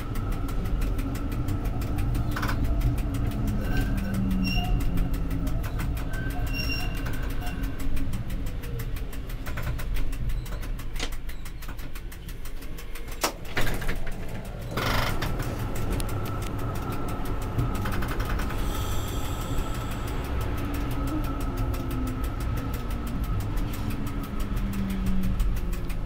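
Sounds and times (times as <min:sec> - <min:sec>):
steady vehicle whine: 0:00.0 - 0:26.0
vehicle low rumble: 0:00.0 - 0:26.0.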